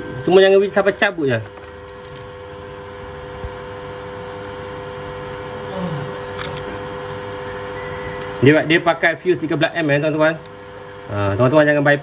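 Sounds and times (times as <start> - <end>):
steady two-tone machine hum: 0.0 - 12.0.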